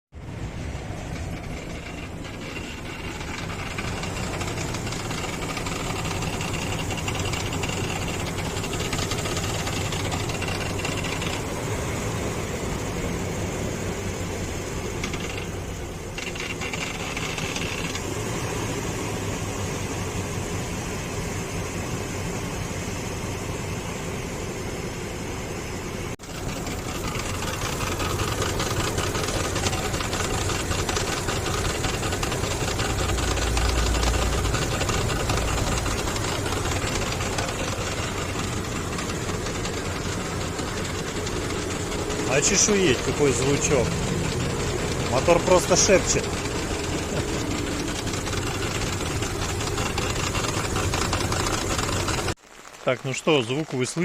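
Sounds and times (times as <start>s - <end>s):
engine idling with loud knocking: 0.1s - 52.4s.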